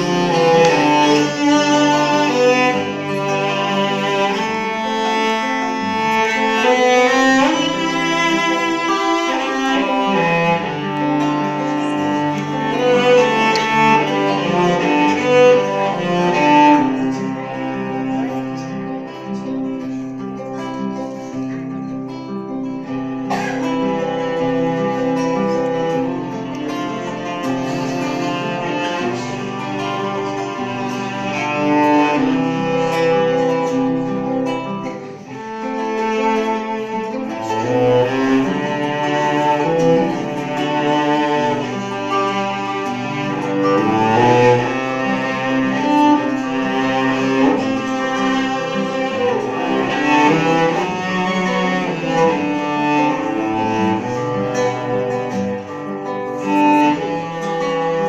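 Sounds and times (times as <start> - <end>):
cello melody with accompaniment: 0.0 - 58.0.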